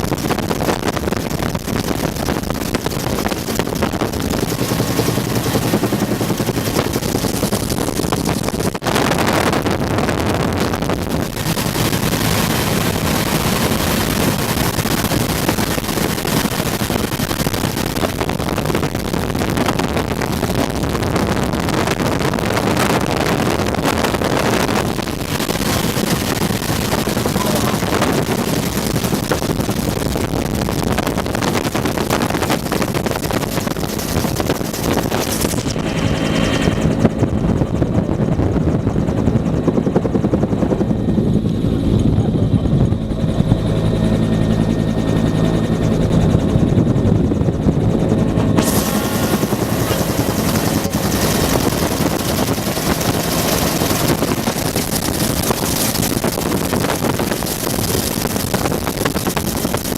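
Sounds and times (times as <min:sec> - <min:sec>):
helicopter turbine and rotor drone: 0:00.0 - 0:59.9
wind rushing on microphone: 0:00.0 - 0:59.9.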